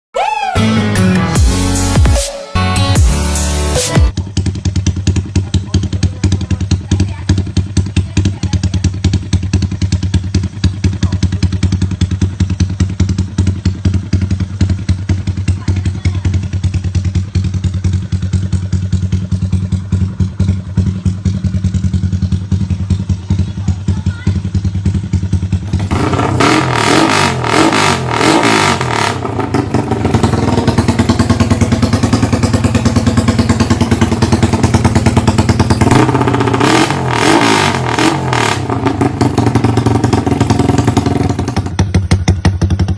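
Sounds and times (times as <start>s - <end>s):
motorcycle engine idling: 4.1s - 42.9s
motorcycle throttle blips: 4.1s - 42.9s.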